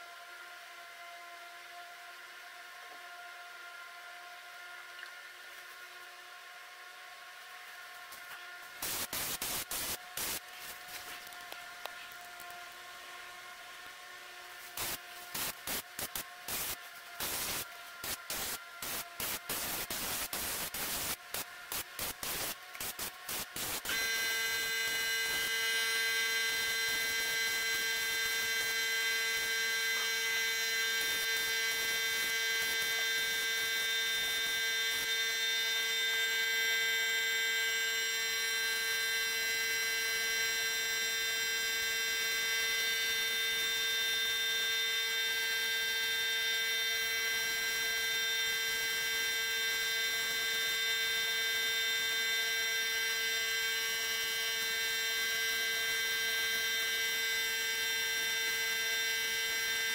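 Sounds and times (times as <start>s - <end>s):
electric motor whining hum: 0.0s - 59.9s.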